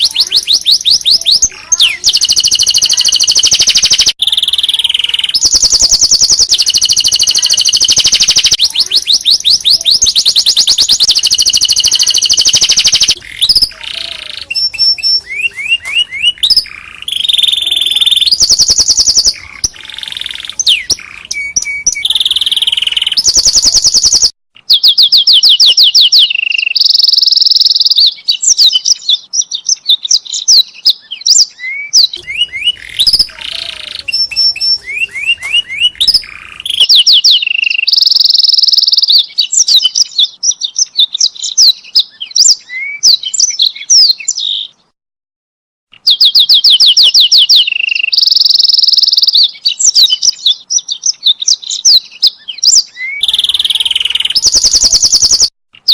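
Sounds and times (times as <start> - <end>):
canary singing: 0.0 - 44.9, 45.9 - 55.9.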